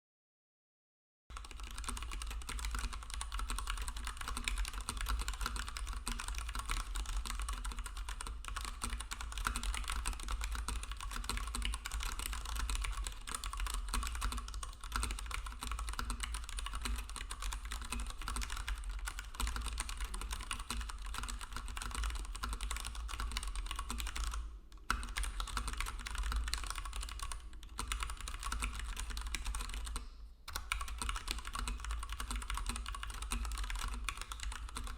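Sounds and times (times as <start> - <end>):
mechanical keyboard typing: 1.3 - 34.9.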